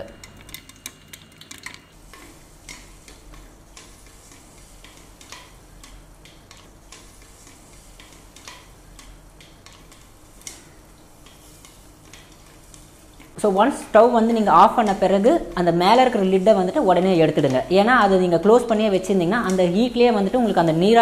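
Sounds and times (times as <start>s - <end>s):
oil sizzling: 0.0s - 21.0s
popcorn popping: 0.0s - 21.0s.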